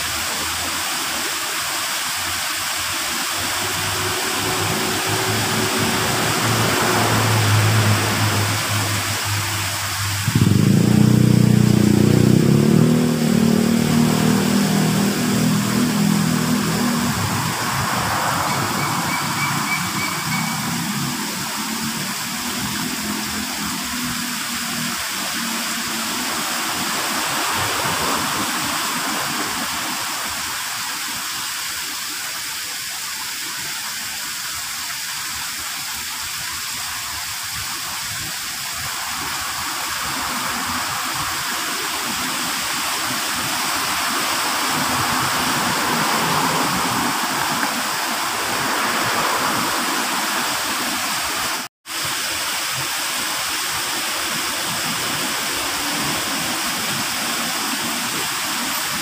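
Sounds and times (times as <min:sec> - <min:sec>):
water splashing down stones: 0:00.0 - 0:59.0.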